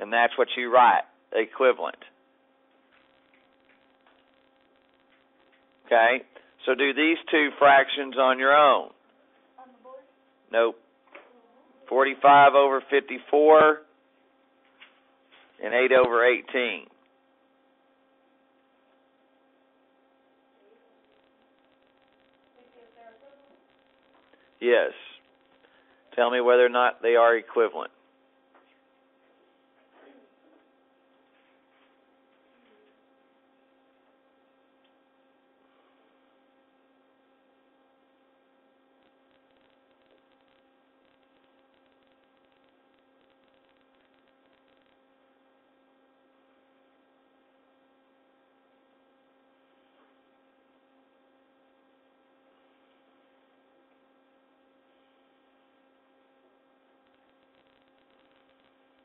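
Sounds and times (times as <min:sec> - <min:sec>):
faint electrical hum: 0:00.0 - 0:59.0.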